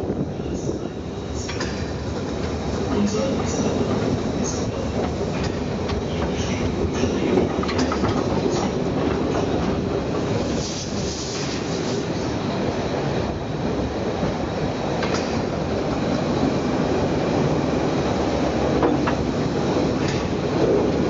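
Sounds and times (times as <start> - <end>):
train wheels clattering on rail: 0.0 - 21.0.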